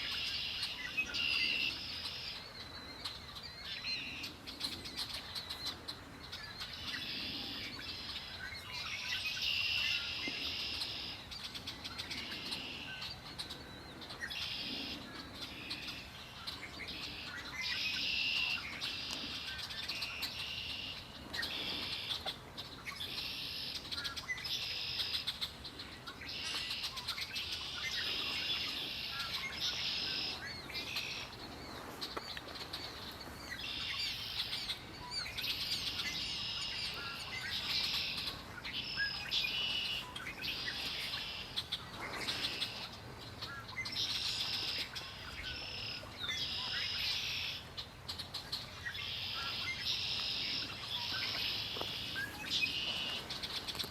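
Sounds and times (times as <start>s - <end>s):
faint bird chirps: 0.0s - 53.9s
songbirds singing: 0.0s - 53.9s.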